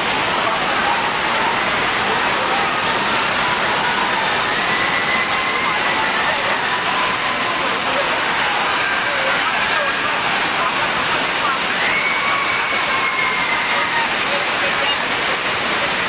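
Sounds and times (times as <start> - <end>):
faint crowd voices: 0.0 - 16.0
rocky stream: 0.0 - 16.0
waterfall rushing: 0.0 - 16.0.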